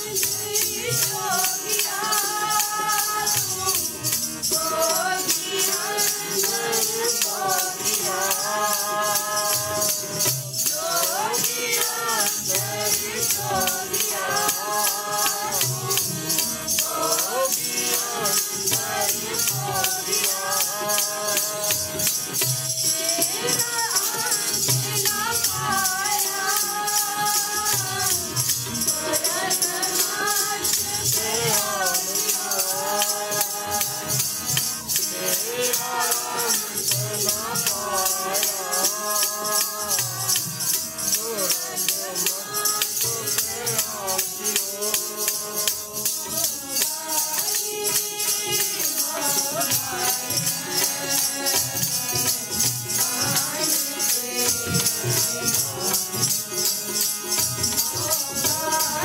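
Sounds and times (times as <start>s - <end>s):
jingling hand percussion: 0.0s - 59.0s
voices singing a hymn: 0.0s - 59.0s.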